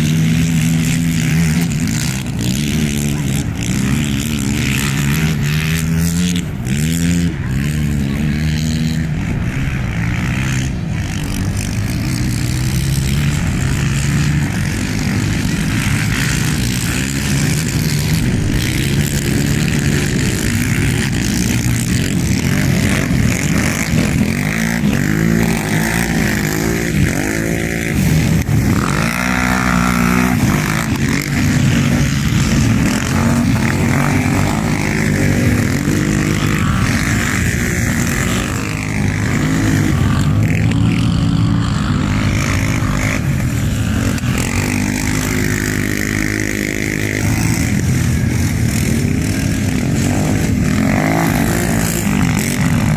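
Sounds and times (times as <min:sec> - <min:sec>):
quad bike engines revving: 0:00.0 - 0:52.9.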